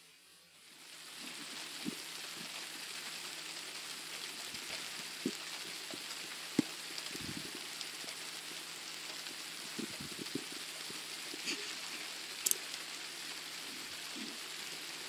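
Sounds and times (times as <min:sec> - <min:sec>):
thunderstorm rain hissing: 0:00.0 - 0:15.0.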